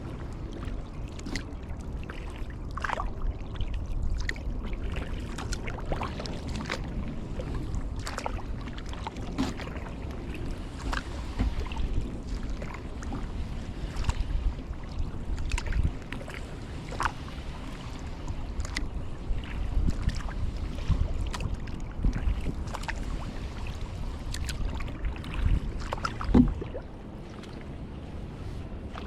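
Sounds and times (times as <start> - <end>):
paddle splashing water: 0.0 - 29.0.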